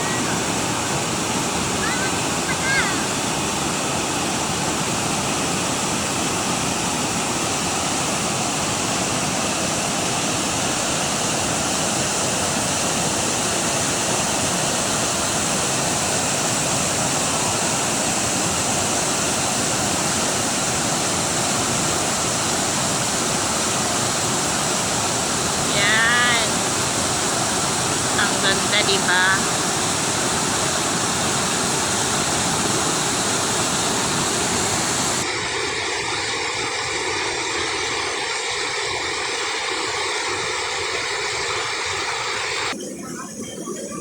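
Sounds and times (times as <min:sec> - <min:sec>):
rushing water: 0:00.0 - 0:44.0.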